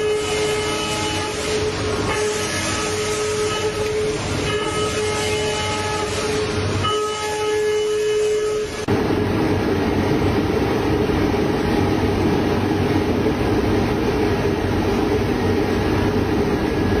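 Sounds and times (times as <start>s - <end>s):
machine noise with low rumble: 0.0s - 17.0s.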